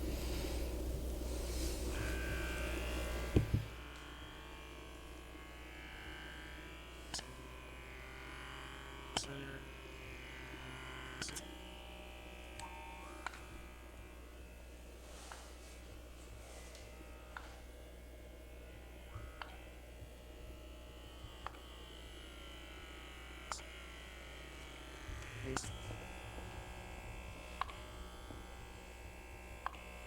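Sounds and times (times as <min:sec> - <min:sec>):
electric motor buzz: 0:00.0 - 0:30.0.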